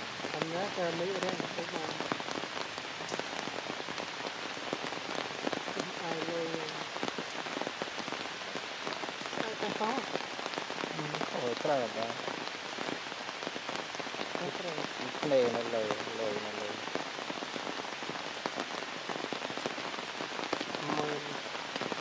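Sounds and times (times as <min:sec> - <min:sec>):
heavy rain on foliage: 0:00.0 - 0:22.0.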